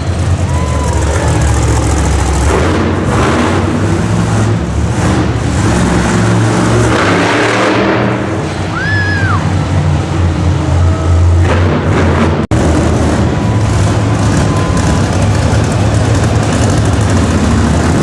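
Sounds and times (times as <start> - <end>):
truck engine running rough: 0.0 - 18.0.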